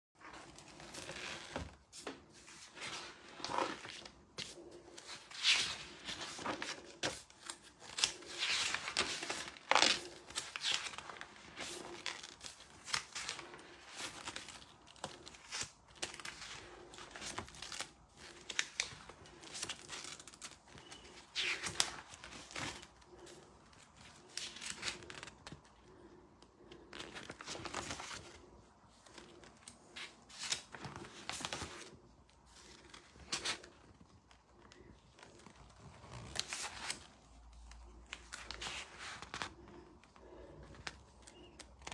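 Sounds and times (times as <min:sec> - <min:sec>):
paper pages rustling: 0:00.2 - 0:41.9.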